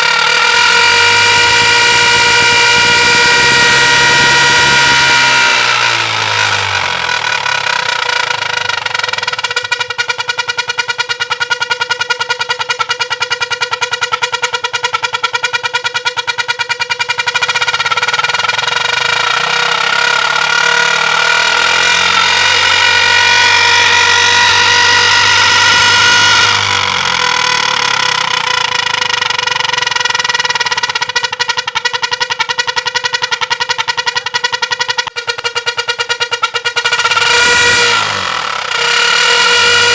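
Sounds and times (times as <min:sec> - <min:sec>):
motorcycle engine with high whine: 0:00.0 - 0:39.9.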